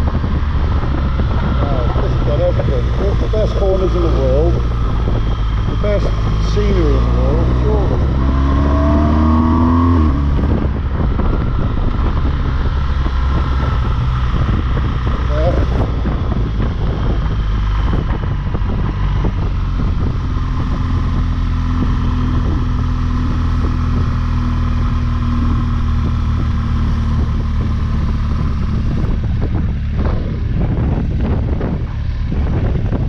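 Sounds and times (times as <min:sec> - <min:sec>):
motorcycle engine under load: 0:00.0 - 0:33.0
wind noise on microphone: 0:00.0 - 0:33.0.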